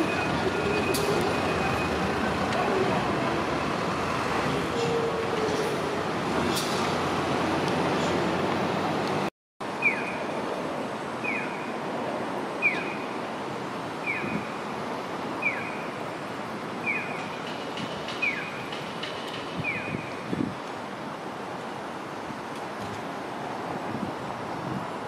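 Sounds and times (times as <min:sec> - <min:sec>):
street noise: 0:00.0 - 0:25.0
streetcar running on tracks: 0:00.0 - 0:25.0.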